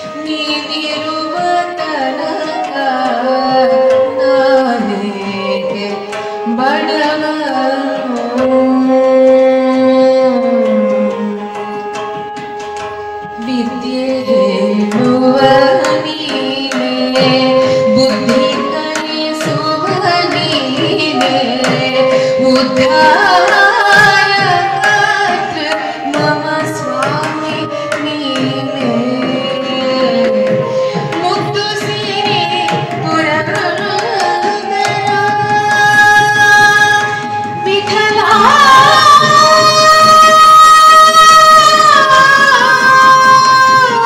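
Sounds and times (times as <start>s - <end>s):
woman singing: 0.0s - 11.9s, 13.4s - 44.0s
tabla and barrel drum: 0.0s - 44.0s.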